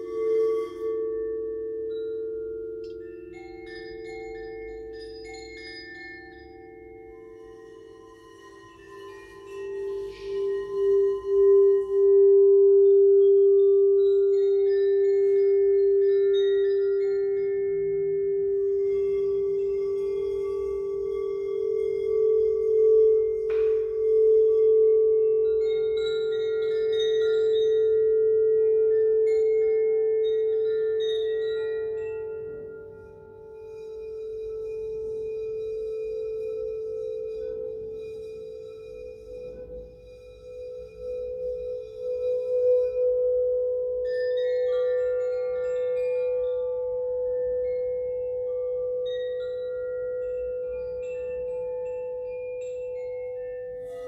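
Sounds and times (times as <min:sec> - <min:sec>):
singing bowls ringing: 0:00.0 - 0:54.0.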